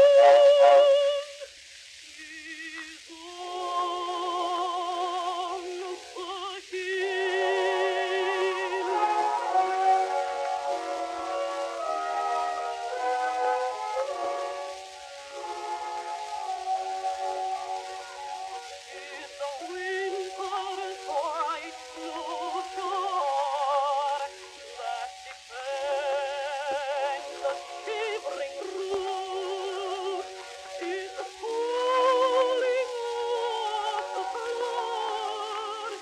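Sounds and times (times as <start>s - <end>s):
contralto singing with vibrato: 0.0s - 36.0s
record surface hiss: 0.0s - 36.0s.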